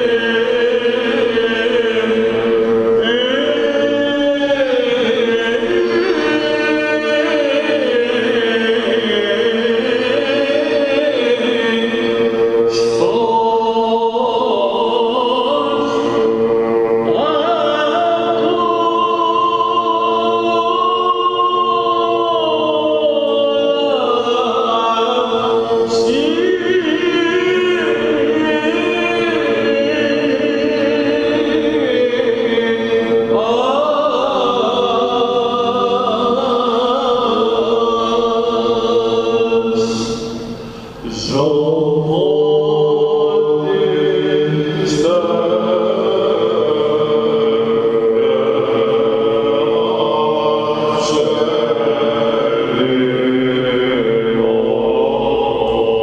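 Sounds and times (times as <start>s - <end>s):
choir holding drone note: 0.0s - 56.0s
person chanting ornamented melody: 0.0s - 56.0s.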